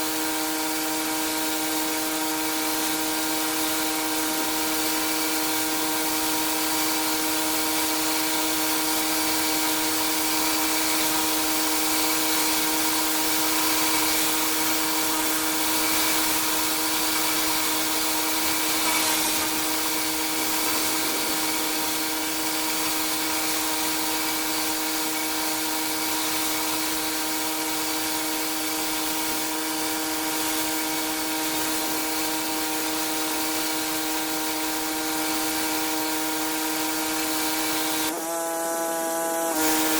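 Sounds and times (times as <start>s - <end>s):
high-pressure water spray hissing: 0.0s - 39.9s
pressure washer machine hum: 0.0s - 39.9s.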